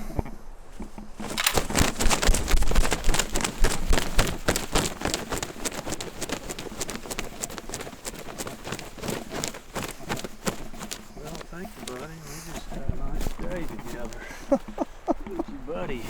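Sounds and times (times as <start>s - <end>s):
footsteps crunching through dry leaves: 1.1s - 16.0s.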